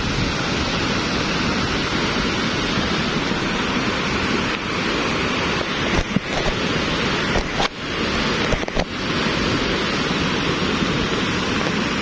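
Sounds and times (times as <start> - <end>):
mudflow rushing with debris: 0.0 - 12.0.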